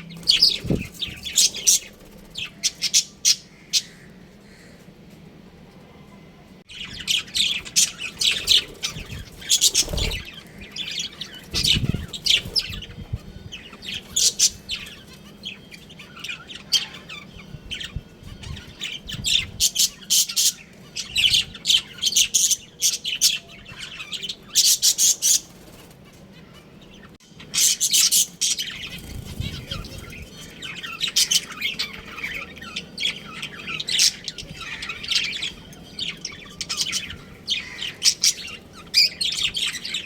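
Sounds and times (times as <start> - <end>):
budgerigars chirping: 6.7 - 26.0, 26.8 - 40.0.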